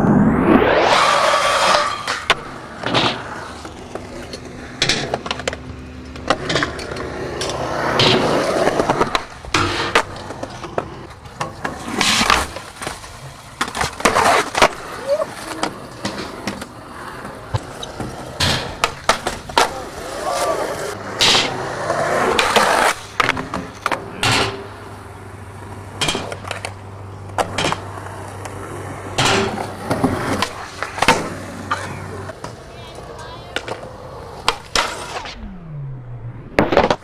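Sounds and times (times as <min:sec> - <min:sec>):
skateboard wheels rolling on concrete: 0:00.0 - 0:37.0
trucks grinding on concrete: 0:00.6 - 0:32.5
skateboard snapping and landing: 0:00.9 - 0:16.8, 0:17.5 - 0:20.5, 0:21.2 - 0:24.8, 0:25.9 - 0:32.6, 0:33.2 - 0:35.7, 0:36.6 - 0:37.0.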